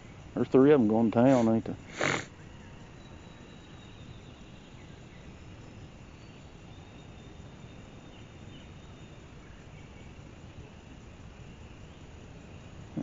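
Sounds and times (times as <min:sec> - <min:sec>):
faint high insect or bird calls: 0:00.0 - 0:13.0
steady hiss: 0:00.0 - 0:13.0.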